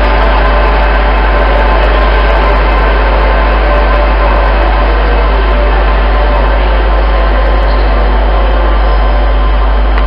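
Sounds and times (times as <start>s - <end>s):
train rushing and rumbling: 0.0s - 10.0s.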